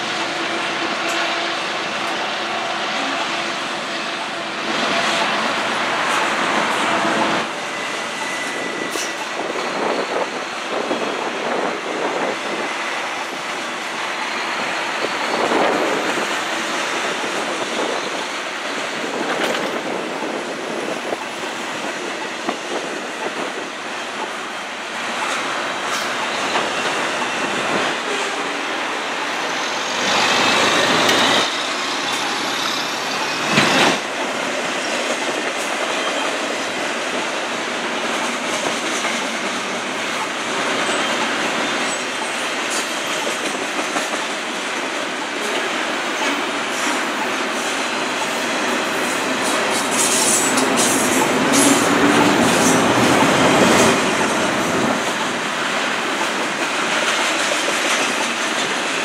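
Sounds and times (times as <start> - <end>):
train wheels rushing on rail: 0.0 - 59.0.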